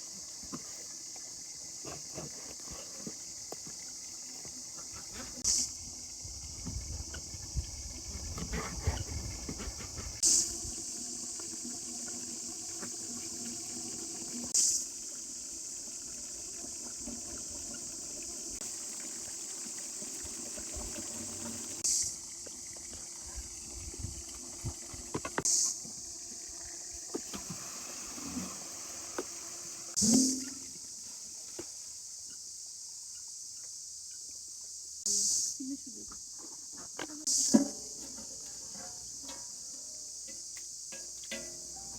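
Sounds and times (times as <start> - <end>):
crickets chirring: 0.0 - 41.9
insects buzzing: 0.0 - 41.9.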